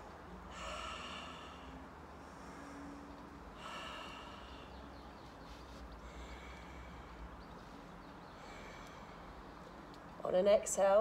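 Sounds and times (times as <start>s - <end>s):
distant birds calling: 0.0s - 10.2s
low steady rumble: 0.0s - 11.0s.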